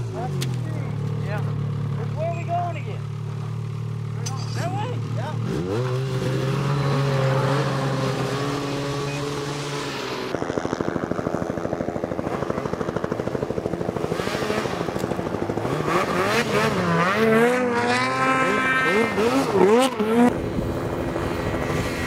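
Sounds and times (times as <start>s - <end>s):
snowmobile engines revving: 0.0s - 22.0s.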